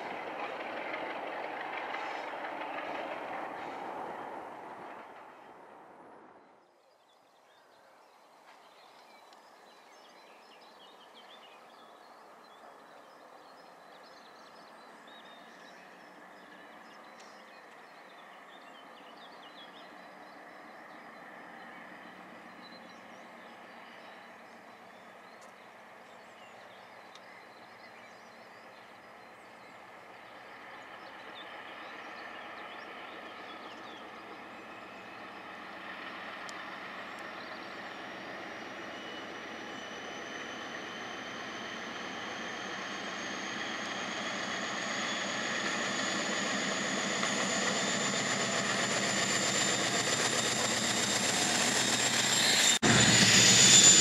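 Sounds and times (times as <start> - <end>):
diesel locomotive engine: 0.0 - 6.8, 7.4 - 54.0.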